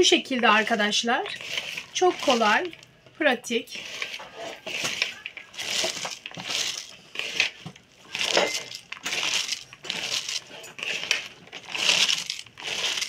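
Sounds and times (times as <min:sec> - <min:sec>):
cabbage rustling in a bowl: 0:00.1 - 0:02.8, 0:03.5 - 0:13.0.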